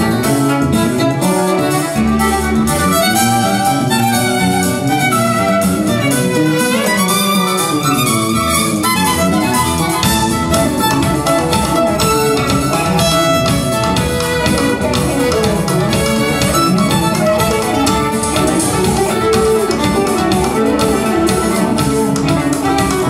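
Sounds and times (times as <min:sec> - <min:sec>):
amplified violin: 0:00.0 - 0:23.0
drums: 0:00.0 - 0:23.0.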